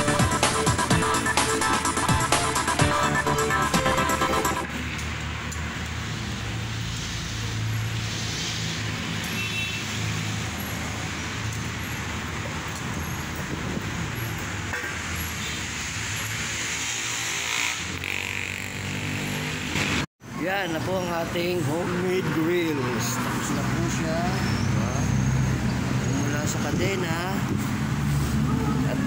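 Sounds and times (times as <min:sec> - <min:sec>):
traffic rumble and hiss: 0:04.7 - 0:29.0.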